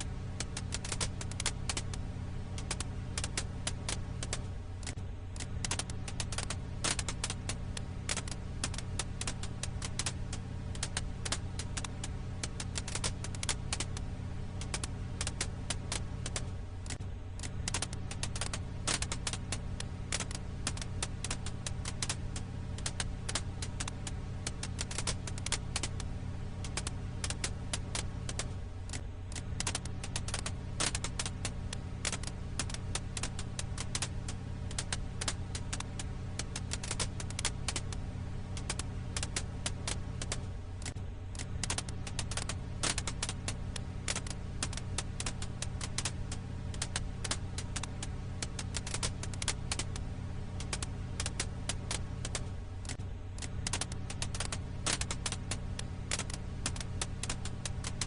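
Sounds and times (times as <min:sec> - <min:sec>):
firewood crackling: 0:00.0 - 0:58.0
low hum: 0:00.0 - 0:58.0.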